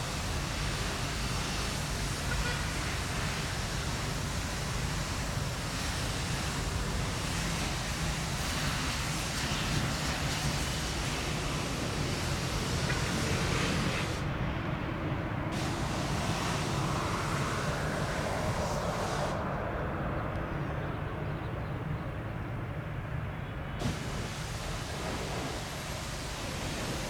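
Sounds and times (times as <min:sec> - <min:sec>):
jet engines running: 0:03.1 - 0:27.0.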